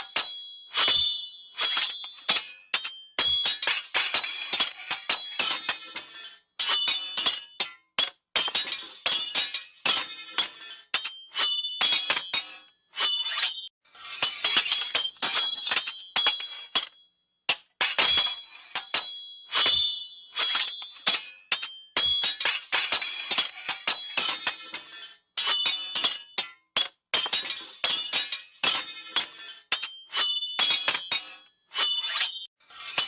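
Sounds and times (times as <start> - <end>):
sword blades clashing: 0.0 - 33.0.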